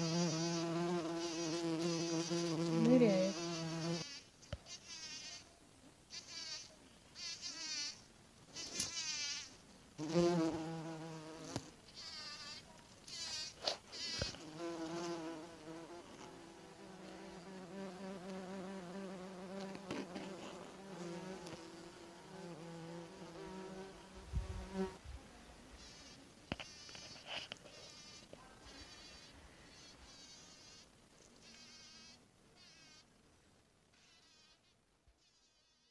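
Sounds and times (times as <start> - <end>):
bumblebee buzzing: 0.0 - 5.4, 6.1 - 8.0, 8.6 - 25.0, 25.8 - 30.9, 31.5 - 33.0.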